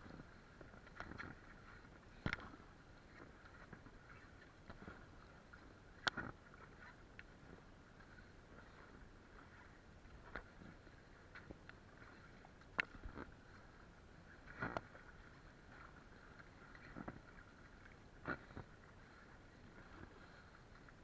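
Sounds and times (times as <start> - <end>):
faint wash of water: 0.0 - 21.0.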